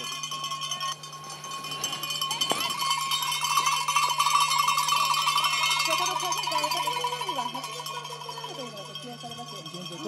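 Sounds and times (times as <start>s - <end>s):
cowbells ringing: 0.0s - 10.0s.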